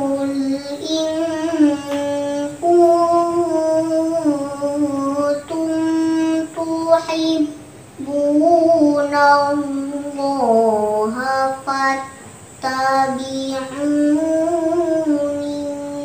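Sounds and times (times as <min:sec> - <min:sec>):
girl chanting melodically: 0:00.0 - 0:16.0.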